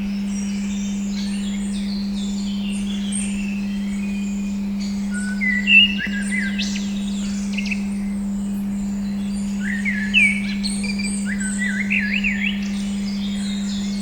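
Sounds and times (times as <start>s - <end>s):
songbirds chirping: 0.0s - 14.0s
steady low pure tone: 0.0s - 14.0s.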